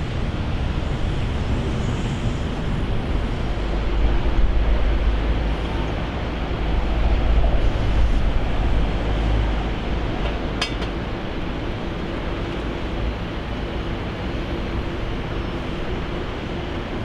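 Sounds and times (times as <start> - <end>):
jet aircraft engines: 0.0 - 17.0.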